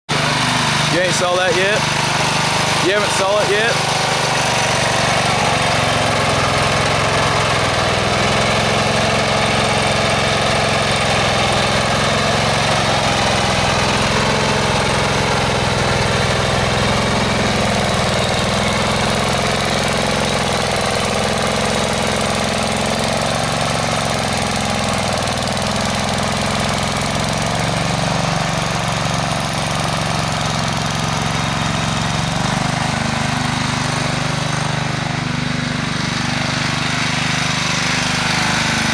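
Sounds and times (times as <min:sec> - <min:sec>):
tractor engine running under load: 0:00.1 - 0:38.9.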